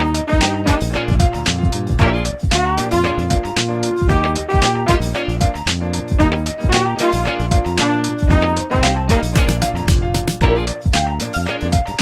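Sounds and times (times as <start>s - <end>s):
upbeat funky music: 0.0s - 12.0s.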